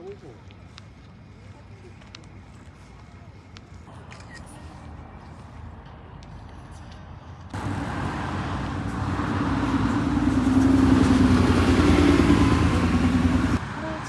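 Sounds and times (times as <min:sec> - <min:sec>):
vehicle engine hum and road noise: 0:00.0 - 0:14.0.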